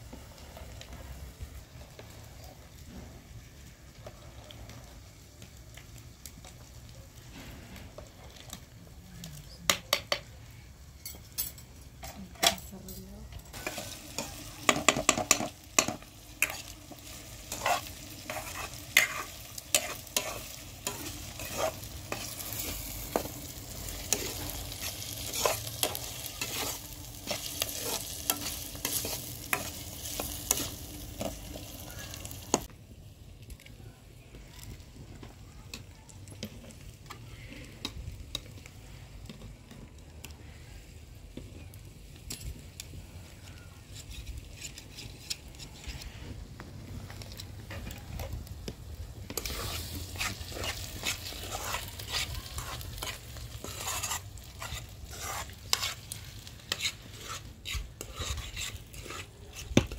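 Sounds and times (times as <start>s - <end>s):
onions sizzling in a pan: 0.0s - 59.9s.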